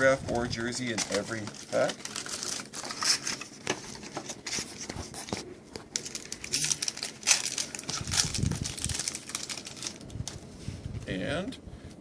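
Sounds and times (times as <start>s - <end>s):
plastic and foil wrapping torn: 0.3s - 10.5s.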